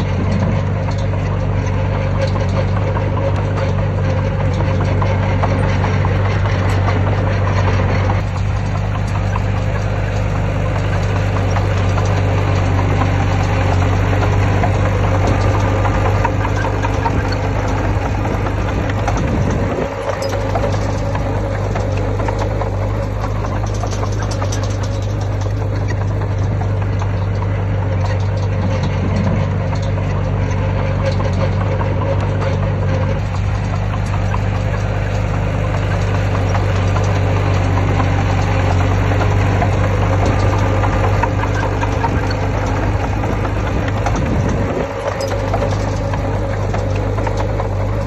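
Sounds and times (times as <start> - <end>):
heavy diesel engine running: 0.0 - 48.0
small clicks and knocks: 0.0 - 48.0.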